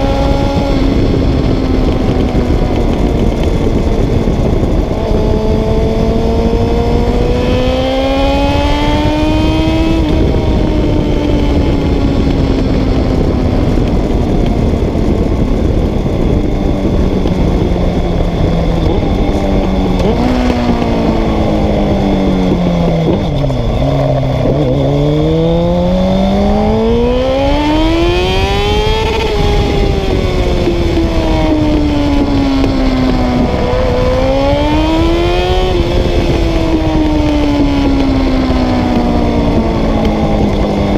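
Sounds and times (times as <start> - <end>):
motorcycle engine at speed: 0.0 - 40.9
wind and road rush: 0.0 - 40.9.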